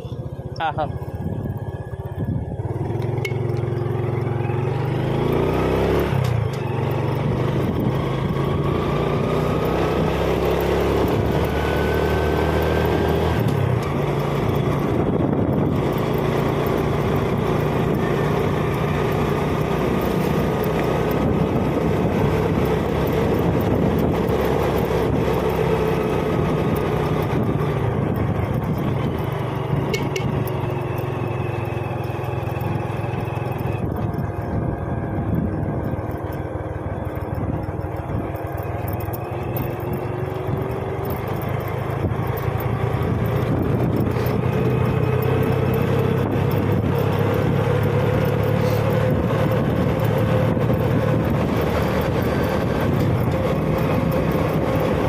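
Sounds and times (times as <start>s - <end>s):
motorcycle engine running: 0.0s - 55.0s
rushing road noise: 0.0s - 55.0s.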